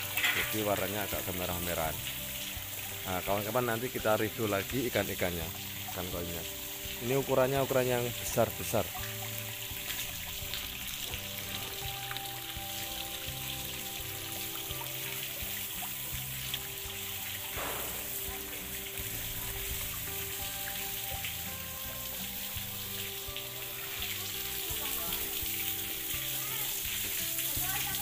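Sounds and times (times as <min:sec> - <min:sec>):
soft background music: 0:00.0 - 0:28.0
water pouring into pond: 0:00.0 - 0:28.0.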